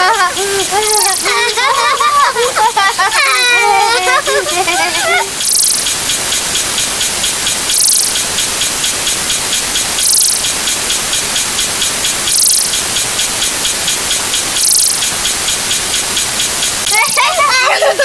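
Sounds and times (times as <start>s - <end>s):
layered rain-like hiss: 0.0s - 18.0s.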